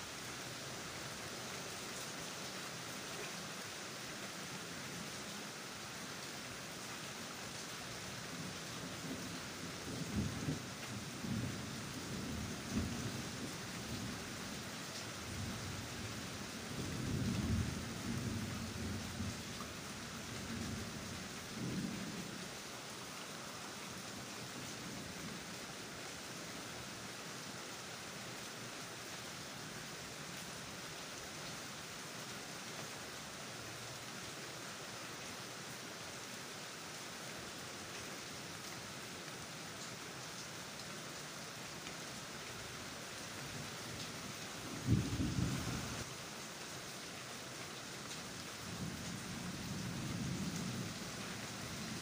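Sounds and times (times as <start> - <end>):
rain hissing: 0.0 - 36.0, 36.8 - 52.0.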